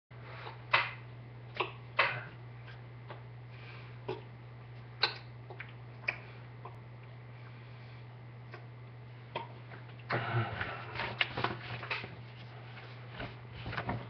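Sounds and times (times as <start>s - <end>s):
low electrical hum: 0.1s - 14.0s.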